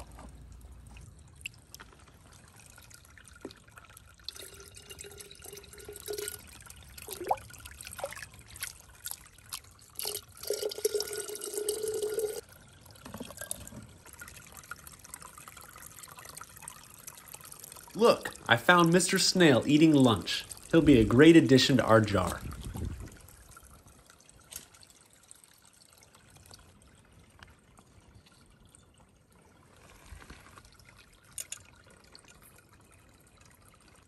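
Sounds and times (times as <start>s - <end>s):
brook water trickling: 0.0s - 34.0s
water pouring and dripping: 0.0s - 34.0s.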